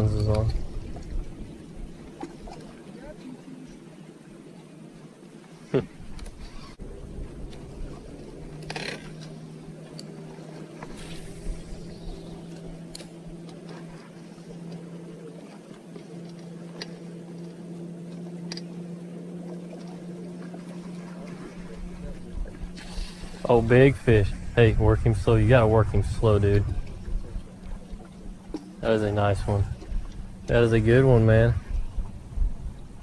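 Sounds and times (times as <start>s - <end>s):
electric trolling motor humming: 0.0s - 33.0s
water washing along hull: 0.0s - 33.0s.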